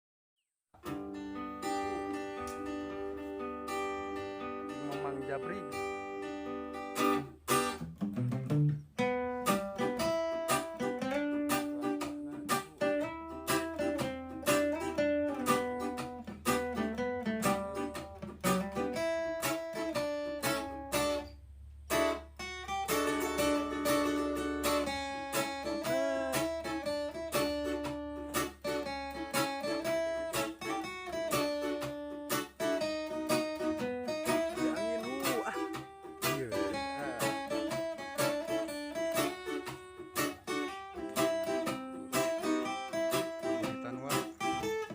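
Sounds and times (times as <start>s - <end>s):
acoustic guitar melody: 0.8s - 44.9s.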